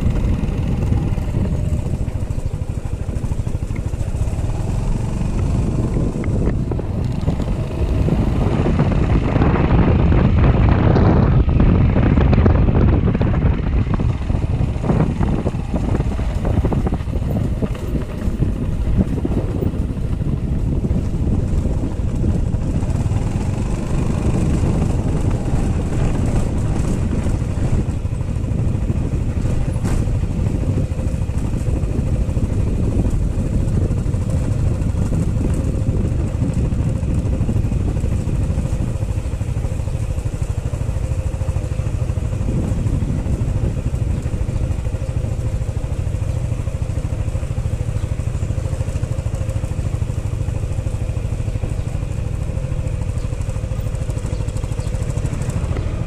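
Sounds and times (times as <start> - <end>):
scooter engine low rumble: 0.0 - 56.0.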